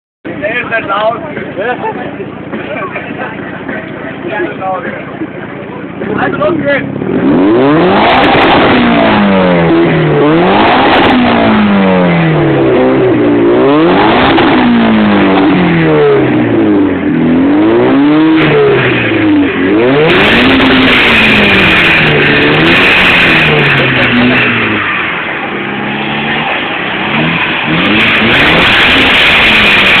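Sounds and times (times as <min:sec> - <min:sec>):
high turbo whine: 0:00.3 - 0:30.0
car engine revving hard: 0:01.6 - 0:30.0.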